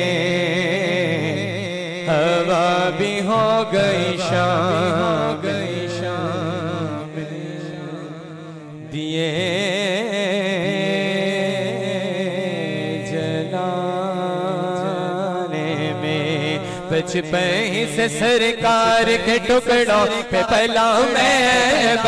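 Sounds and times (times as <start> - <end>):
man singing with vibrato: 0.0 - 22.0.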